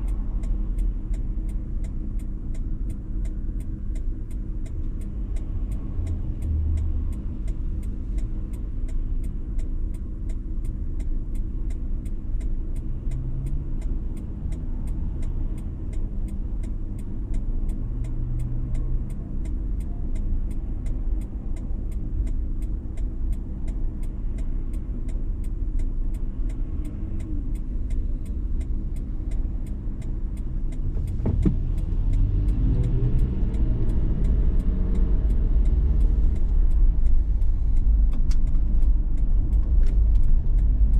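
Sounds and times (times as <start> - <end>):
road and engine rumble: 0.0 - 40.9.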